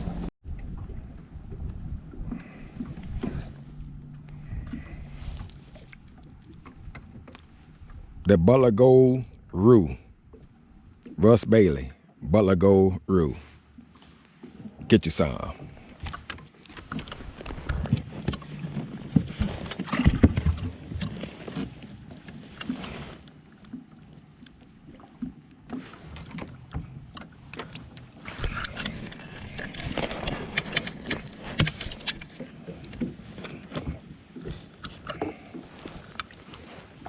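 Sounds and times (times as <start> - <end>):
water lapping against boat hull: 0.0 - 37.0.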